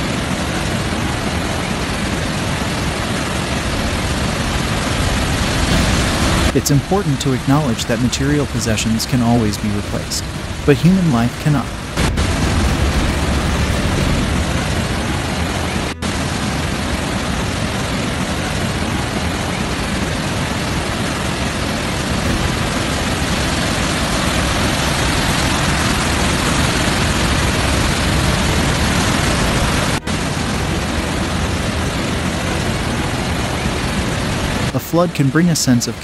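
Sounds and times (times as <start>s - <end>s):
floodwater rushing: 0.0s - 36.0s.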